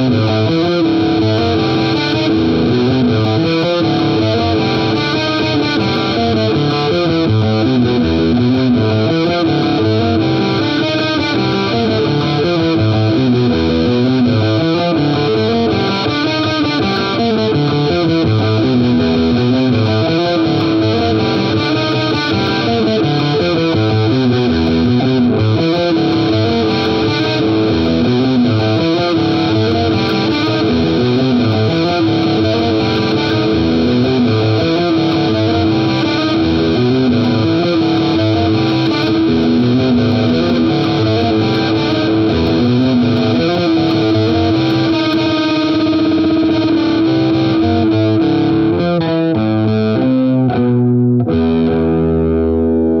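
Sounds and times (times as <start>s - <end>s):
distorted electric guitar riff: 0.0s - 53.0s.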